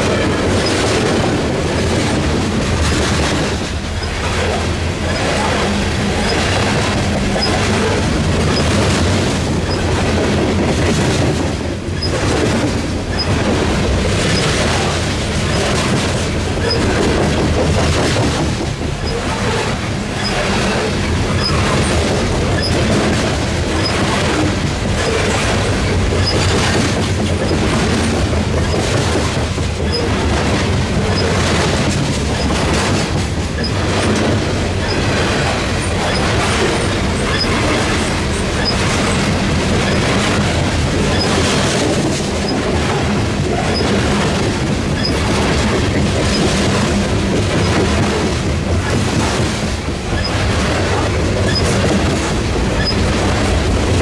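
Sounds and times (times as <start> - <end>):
clatter over rail joints: 0.0 - 54.0
train wheels rumbling on rail: 0.0 - 54.0.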